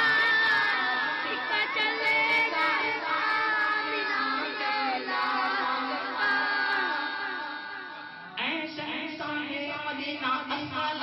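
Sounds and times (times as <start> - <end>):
man singing through pa: 0.0 - 11.0.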